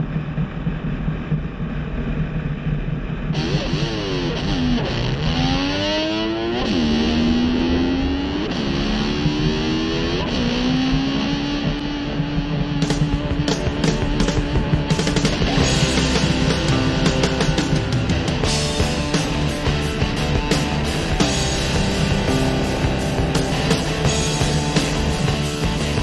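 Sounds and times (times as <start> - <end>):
low steady drone: 0.0 - 26.0
distorted electric slide guitar: 3.3 - 26.0.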